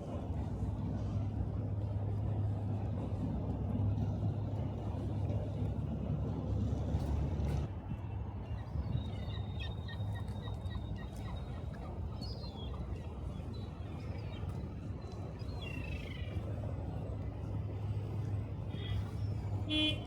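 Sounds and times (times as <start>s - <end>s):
low rumble of city traffic: 0.0s - 20.0s.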